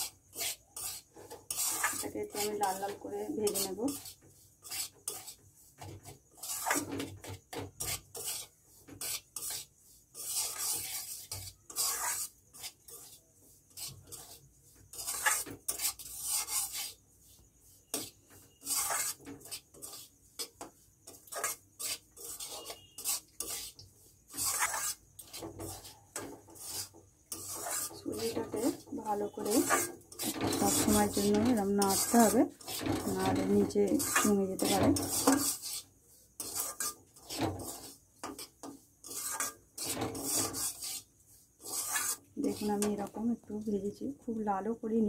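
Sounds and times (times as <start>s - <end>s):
metal spatula scraping pan: 0.0s - 43.6s.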